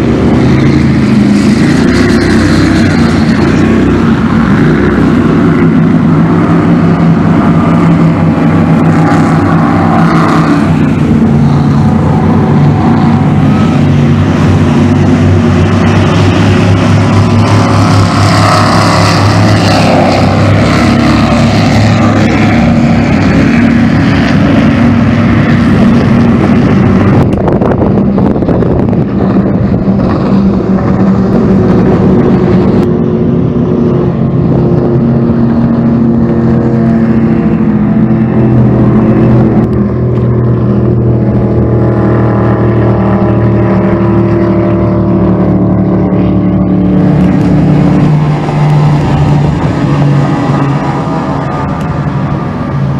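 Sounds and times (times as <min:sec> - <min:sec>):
powerboat engines passing: 0:00.0 - 0:52.9.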